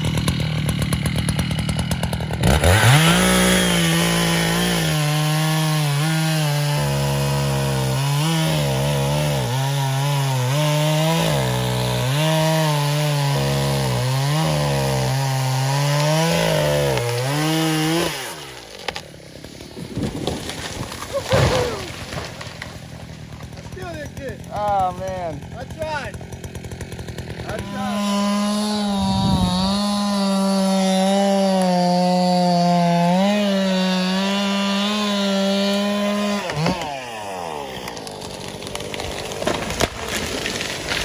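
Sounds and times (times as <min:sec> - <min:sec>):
chainsaw cutting wood: 0:00.0 - 0:41.0
chainsaw revving: 0:00.0 - 0:41.0.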